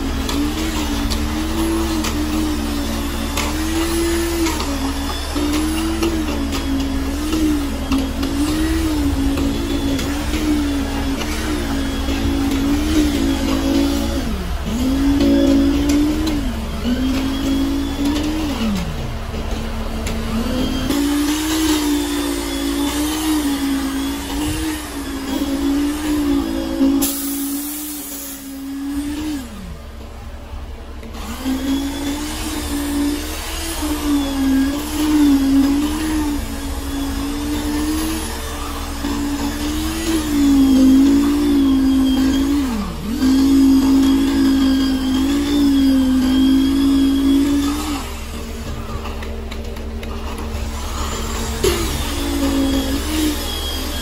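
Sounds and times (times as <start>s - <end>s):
motor humming: 0.0s - 54.0s.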